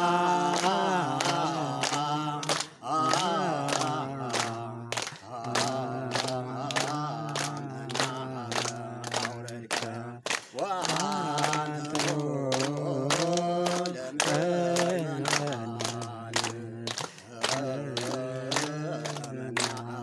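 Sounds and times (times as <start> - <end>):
hand claps: 0.0 - 20.0
men chanting a hymn: 0.0 - 20.0.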